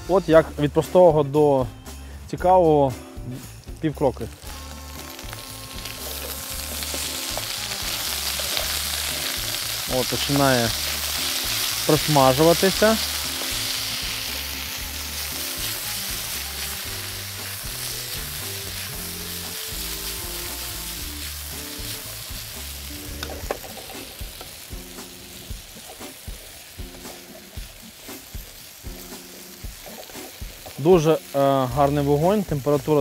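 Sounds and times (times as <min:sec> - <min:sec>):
potatoes sizzling in a pan: 0:03.6 - 0:33.0.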